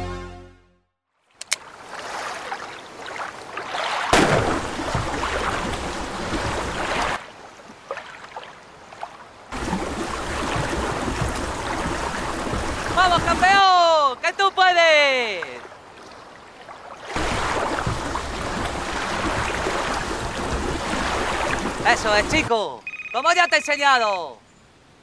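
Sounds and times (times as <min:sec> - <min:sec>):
water splashing from paddling: 0:01.4 - 0:23.3.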